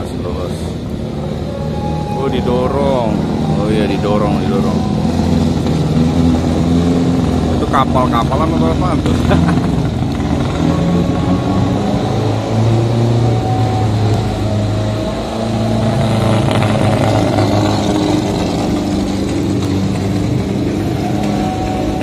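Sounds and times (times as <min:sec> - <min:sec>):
bus engine idling: 0:00.0 - 0:22.0.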